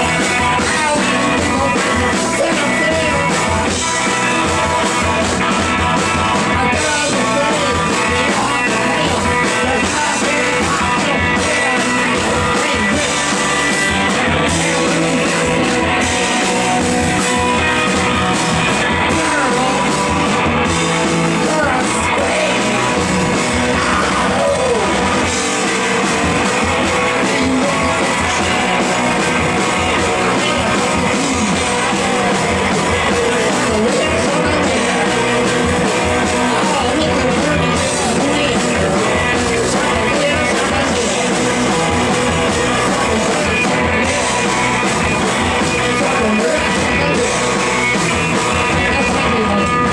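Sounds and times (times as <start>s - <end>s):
drums: 0.0s - 49.9s
electric guitars: 0.0s - 49.9s.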